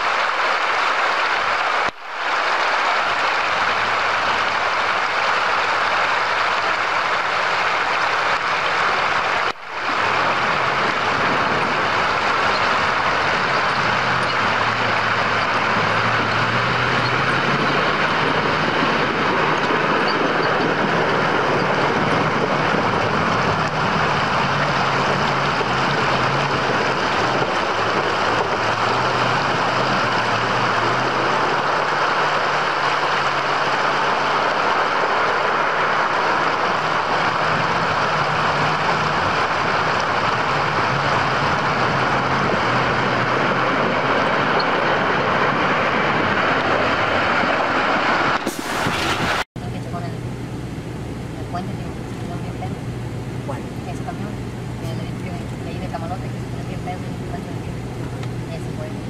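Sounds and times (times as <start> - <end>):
flowing river water: 0.0 - 59.0
truck engine running: 0.0 - 59.0.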